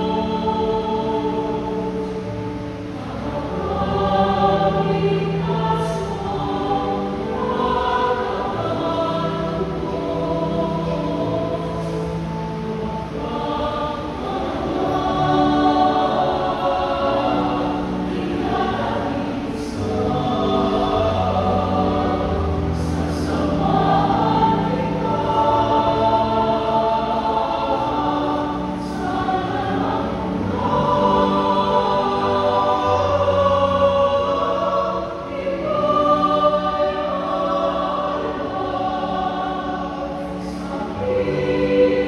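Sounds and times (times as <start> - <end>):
group singing a slow hymn: 0.0 - 42.0.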